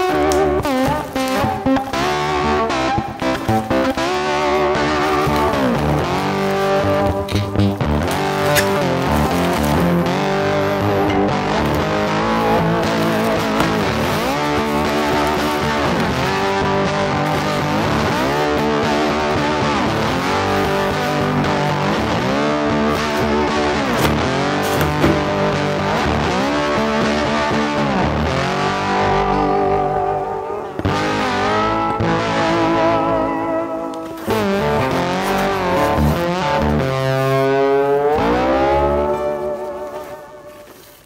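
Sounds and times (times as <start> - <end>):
guitar music with bending notes: 0.0 - 41.0.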